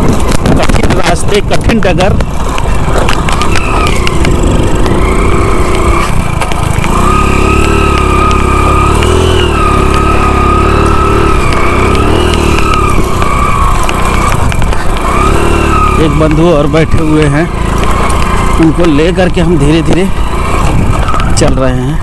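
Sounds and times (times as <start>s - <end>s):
small motorcycle engine: 0.0s - 22.0s.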